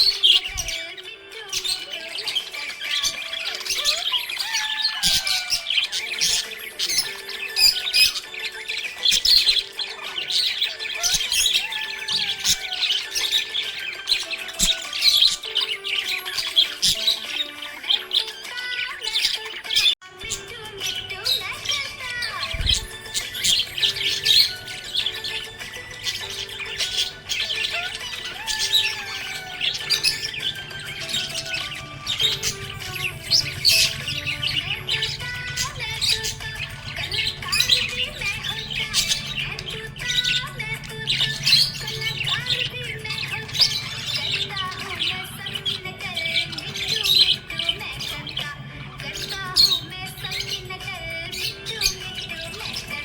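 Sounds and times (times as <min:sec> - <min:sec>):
background music with held tones: 0:00.0 - 0:53.0
budgerigars chirping and squawking: 0:00.0 - 0:53.0.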